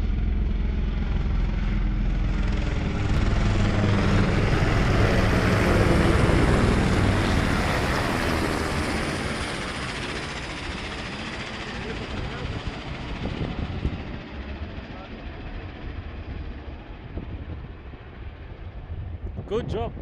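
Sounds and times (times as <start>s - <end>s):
helicopter rotor chop: 0.0s - 19.9s.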